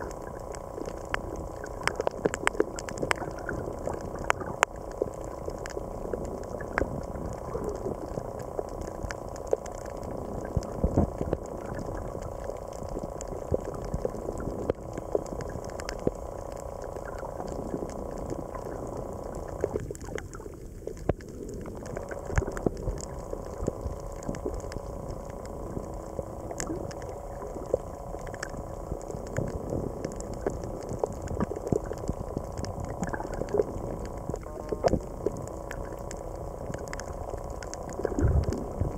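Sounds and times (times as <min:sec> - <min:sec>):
faint steady hum: 0:00.0 - 0:38.9
irregular crackling clicks: 0:00.0 - 0:38.9
underwater water noise: 0:00.0 - 0:38.9.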